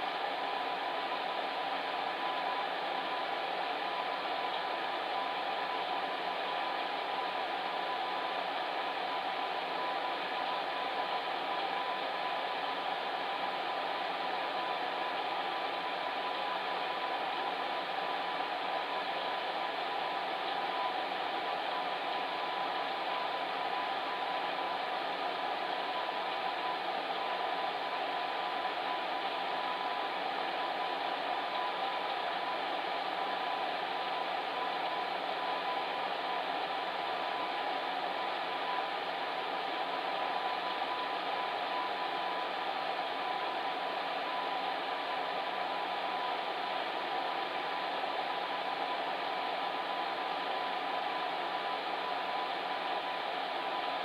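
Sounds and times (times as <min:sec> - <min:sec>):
electric fan heater blowing air: 0:00.0 - 0:54.0
faint steady hum: 0:00.0 - 0:54.0.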